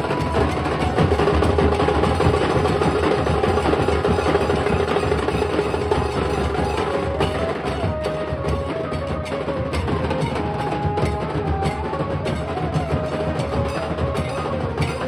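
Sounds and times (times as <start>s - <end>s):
dhol drums drumming: 0.0s - 15.0s.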